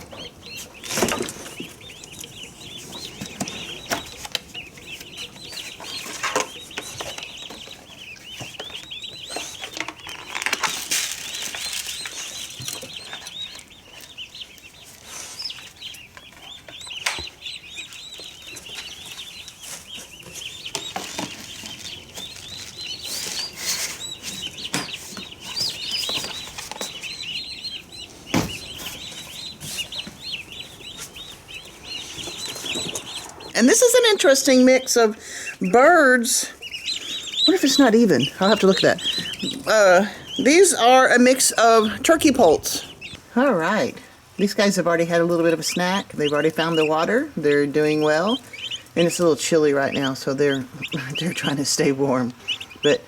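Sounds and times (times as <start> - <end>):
turkey poults peeping: 0.0 - 53.0.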